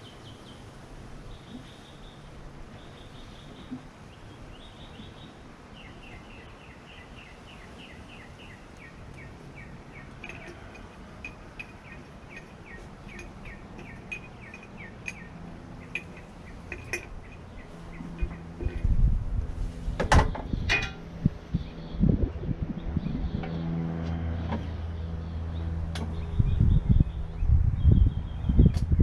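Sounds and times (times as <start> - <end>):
bird chirping: 0.0 - 18.9, 24.6 - 28.9.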